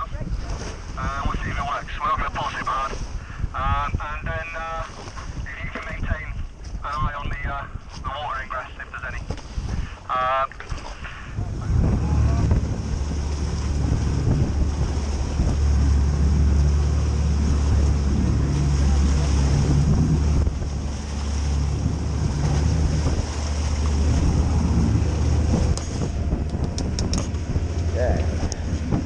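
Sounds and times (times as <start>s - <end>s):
wind buffeting microphone: 0.0s - 8.5s, 9.2s - 10.1s, 10.7s - 29.0s
outboard motors rumbling: 0.0s - 29.0s
water rushing past hull: 0.0s - 29.0s.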